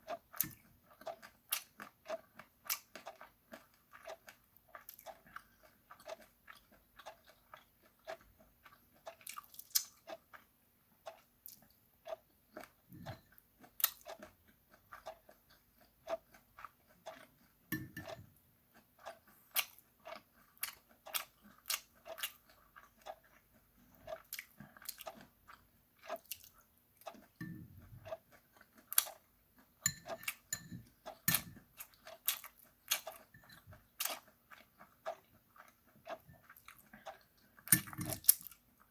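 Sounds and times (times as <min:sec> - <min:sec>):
chewing with wet smacks: 0:00.0 - 0:38.9.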